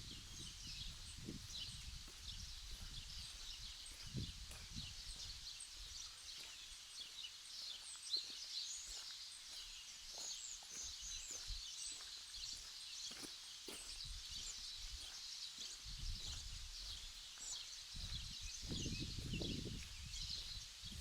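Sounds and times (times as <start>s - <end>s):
footsteps on sand: 0.0s - 21.0s
small birds chirping: 0.0s - 21.0s.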